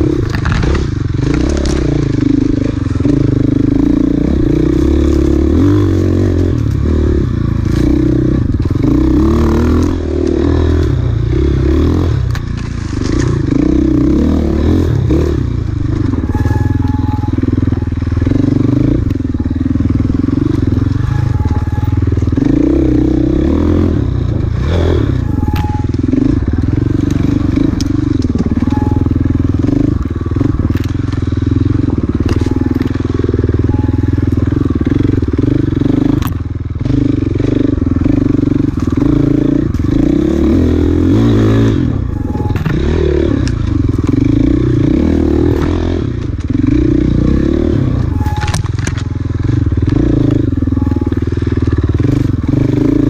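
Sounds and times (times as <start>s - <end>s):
motorcycle clattering over rough ground: 0.0s - 53.0s
motorcycle engine revving: 0.0s - 53.0s.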